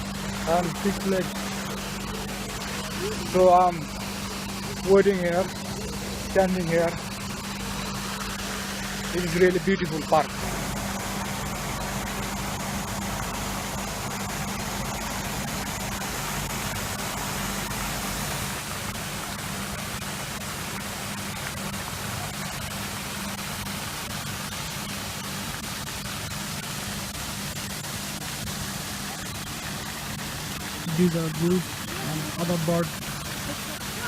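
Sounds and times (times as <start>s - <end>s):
low steady hum: 0.0s - 34.0s
waterfall rushing: 0.0s - 34.0s.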